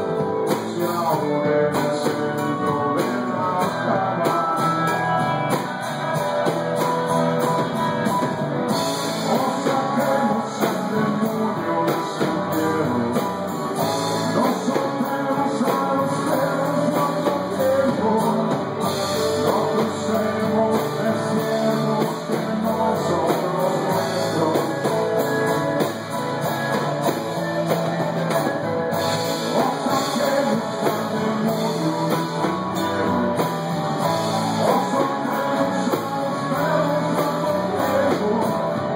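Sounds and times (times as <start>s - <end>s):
man singing: 0.0s - 6.5s, 8.1s - 38.9s
rock band playing: 0.0s - 38.9s.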